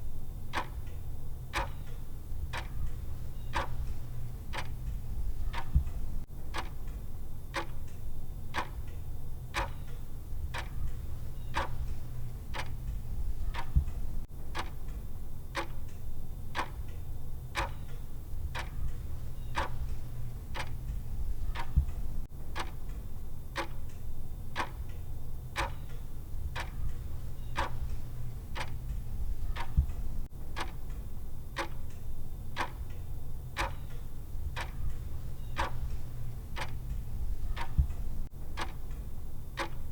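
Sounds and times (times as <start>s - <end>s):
timer ticking: 0.5s - 17.0s, 17.6s - 39.9s.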